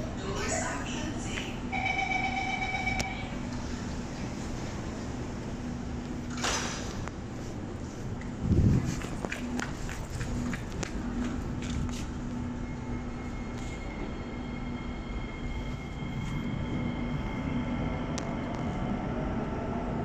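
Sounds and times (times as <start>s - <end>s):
train rumble in tunnel: 0.0s - 20.0s.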